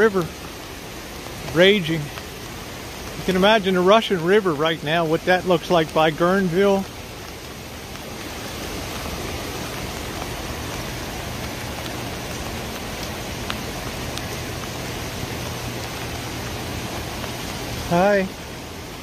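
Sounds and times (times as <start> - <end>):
rushing floodwater in creek: 0.0 - 19.0.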